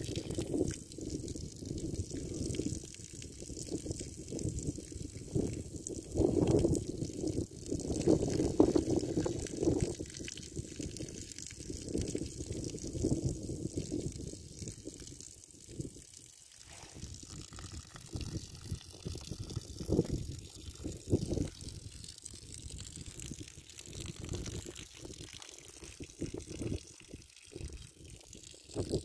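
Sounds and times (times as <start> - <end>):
water stream splashing on ground: 0.0 - 29.0.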